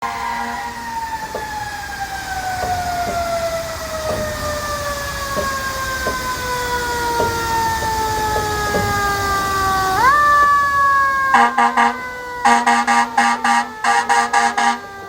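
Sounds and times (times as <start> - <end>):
fire engine siren winding down: 0.0 - 15.0.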